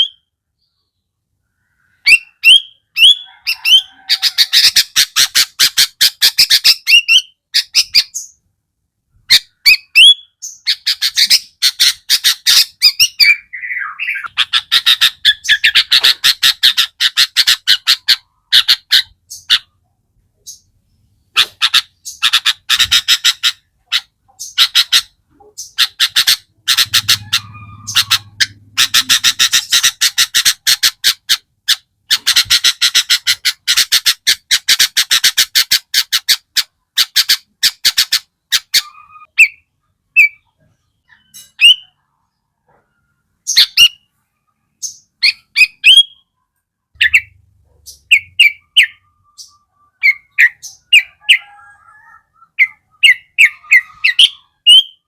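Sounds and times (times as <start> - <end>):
bird chirps and harsh calls: 0.0 - 8.5, 9.1 - 55.0.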